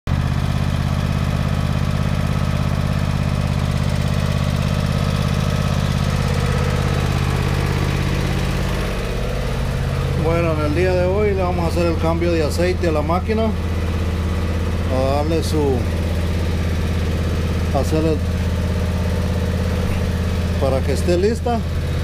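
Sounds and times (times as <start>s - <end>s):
small gasoline engine idling: 0.1s - 22.0s.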